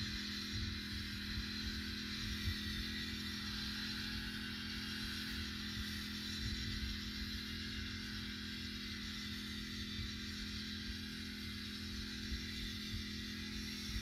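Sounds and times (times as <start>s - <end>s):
small engine humming: 0.0s - 14.0s.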